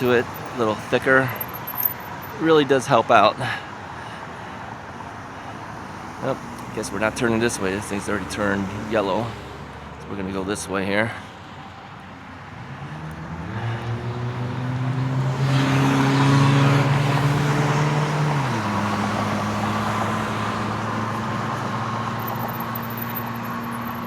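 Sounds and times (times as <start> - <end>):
tyre noise on road: 0.0 - 24.0
vehicle engine hum: 0.0 - 24.0.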